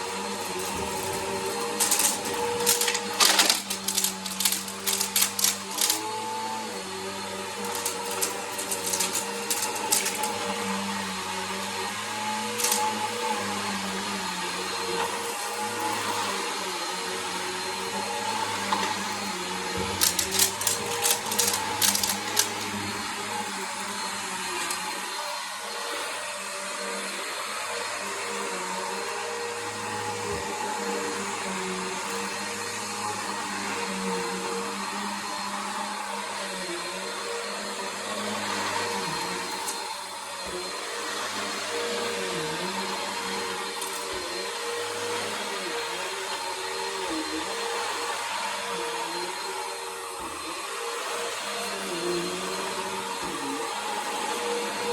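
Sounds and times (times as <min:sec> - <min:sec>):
vacuum cleaner whining hum: 0:00.0 - 0:54.9.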